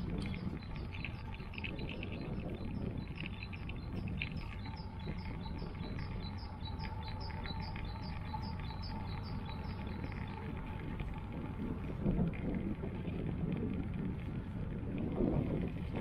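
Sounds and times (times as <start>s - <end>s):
bicycle road and wind rumble: 0.0s - 16.0s.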